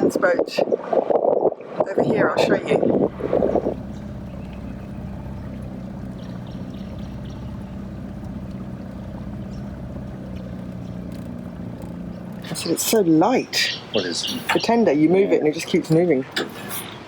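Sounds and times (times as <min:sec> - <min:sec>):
water splashing along hull: 0:00.0 - 0:17.0
outboard motor running: 0:02.0 - 0:16.6.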